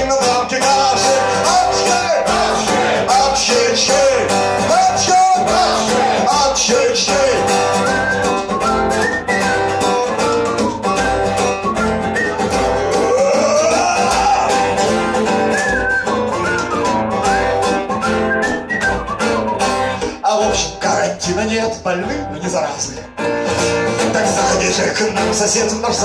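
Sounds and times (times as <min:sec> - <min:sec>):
lead melody with sliding notes: 0:00.0 - 0:26.0
strummed acoustic guitar: 0:00.0 - 0:26.0.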